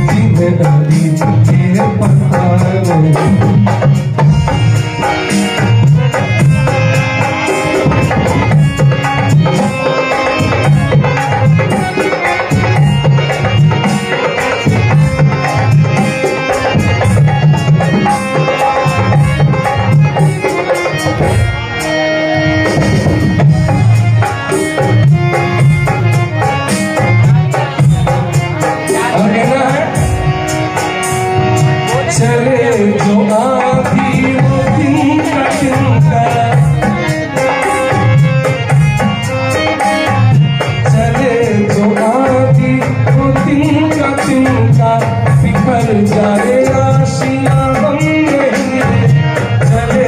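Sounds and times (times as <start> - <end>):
drum rhythm: 0.0 - 50.0
harmonium chords: 0.0 - 50.0.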